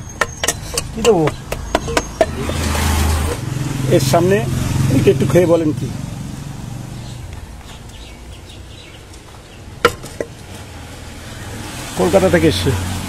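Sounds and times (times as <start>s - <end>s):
vehicle engine: 0.0s - 13.0s.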